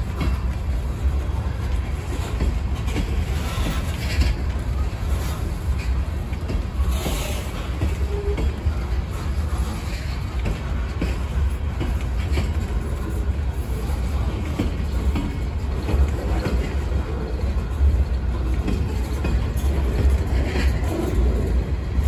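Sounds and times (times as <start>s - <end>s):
train cars clanking: 0.0s - 22.0s
train wheels rumbling on rail: 0.0s - 22.0s.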